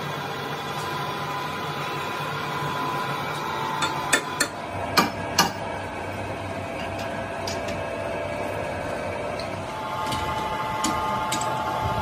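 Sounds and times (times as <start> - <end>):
workshop machinery hum: 0.0 - 12.0.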